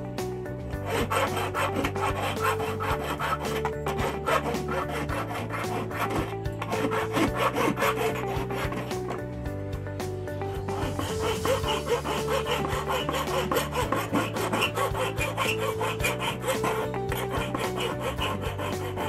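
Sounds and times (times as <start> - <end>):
hand file rasping on metal: 0.0 - 9.4, 10.0 - 19.0.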